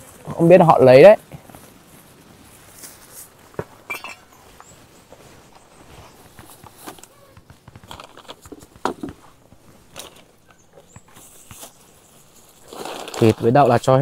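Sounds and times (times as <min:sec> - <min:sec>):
plastic bags rustling: 0:01.0 - 0:10.5, 0:11.1 - 0:14.0.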